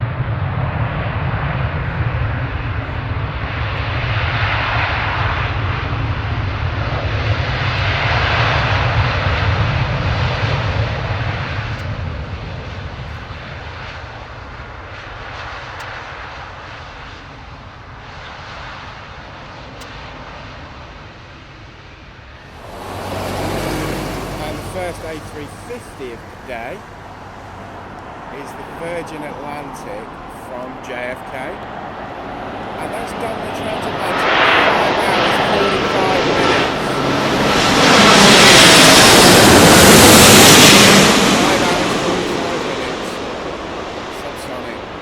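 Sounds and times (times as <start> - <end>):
jet airliner passing overhead: 0.0 - 45.0.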